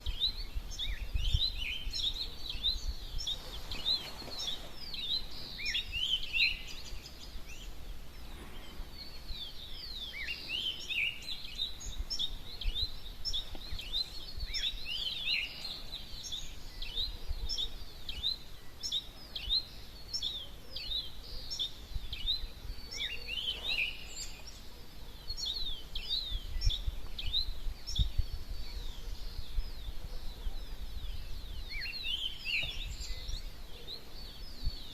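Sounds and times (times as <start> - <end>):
many birds chirping: 0.0 - 34.9.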